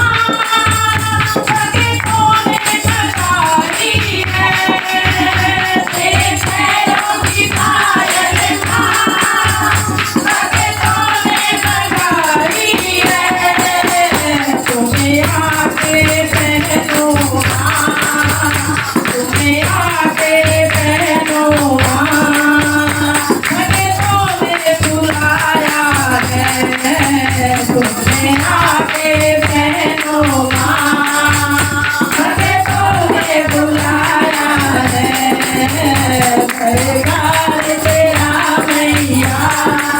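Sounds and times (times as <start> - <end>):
tambourine jingling: 0.0 - 39.9.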